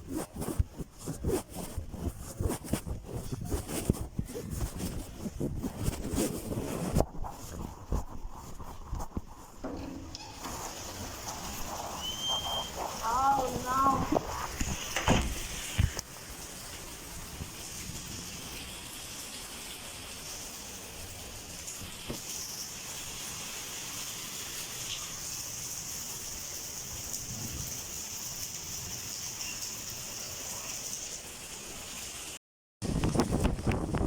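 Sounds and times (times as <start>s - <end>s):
heavy rain falling: 0.2s - 32.4s.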